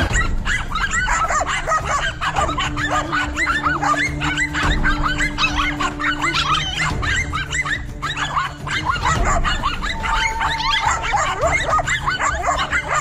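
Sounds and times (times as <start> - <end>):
dogs barking and yelping: 0.0 - 13.0.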